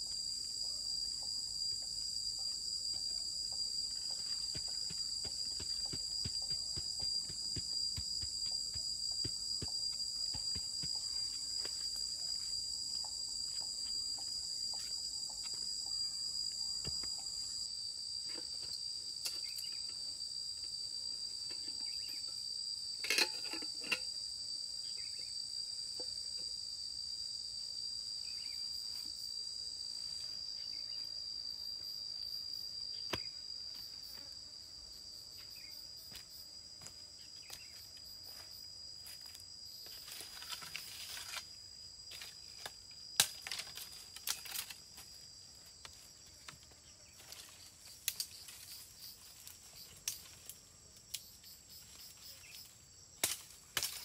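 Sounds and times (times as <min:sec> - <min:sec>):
high-pitched insects droning: 0:00.0 - 0:54.0.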